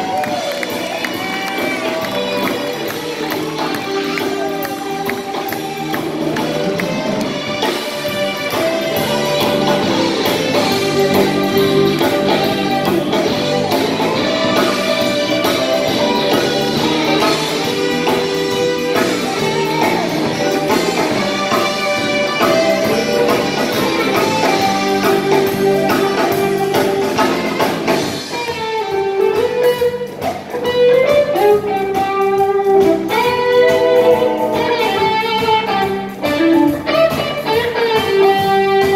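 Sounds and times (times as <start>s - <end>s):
electric guitar lead bending notes: 0.0s - 38.9s
jazz band playing: 0.0s - 38.9s.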